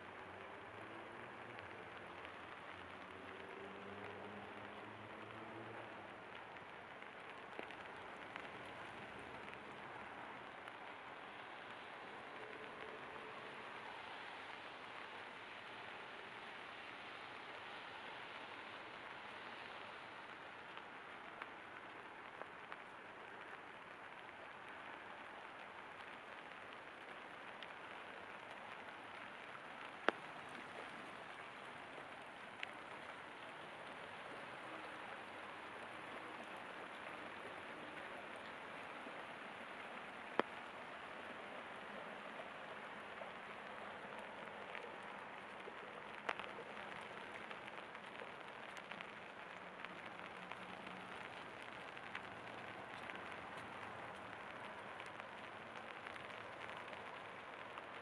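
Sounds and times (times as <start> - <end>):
rain pattering: 0.0 - 58.0
sharp raindrop ticks: 0.0 - 58.0.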